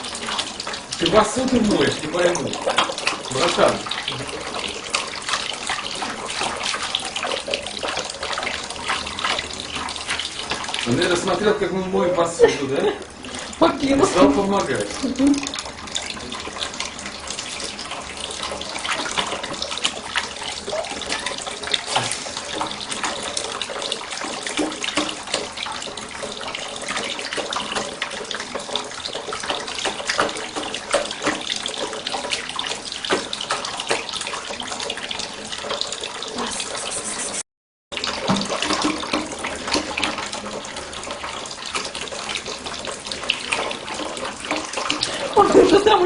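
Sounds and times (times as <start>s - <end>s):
tap water running into sink: 0.0s - 46.0s.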